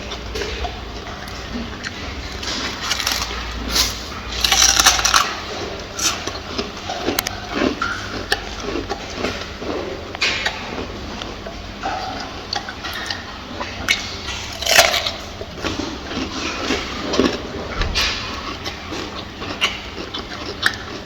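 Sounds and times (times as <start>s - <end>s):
gorilla chewing and crunching food: 0.0s - 21.0s.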